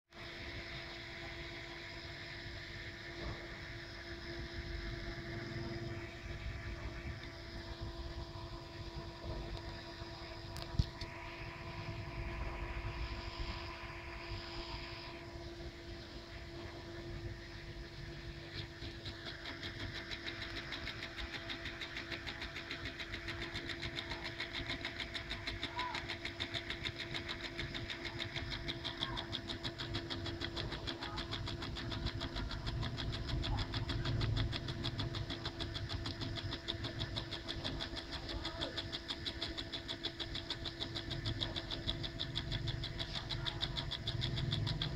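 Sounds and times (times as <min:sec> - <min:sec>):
solenoid engine rapid clicking: 0:00.1 - 0:44.9.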